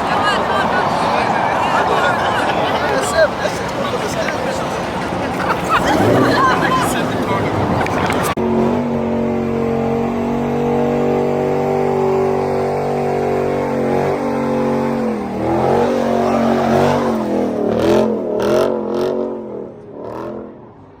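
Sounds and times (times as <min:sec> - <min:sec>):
car engine revving: 0:00.0 - 0:20.6.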